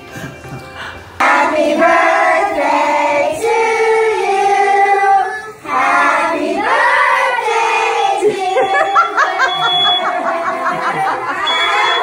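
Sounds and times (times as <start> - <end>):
group singing held notes: 1.2 - 12.0.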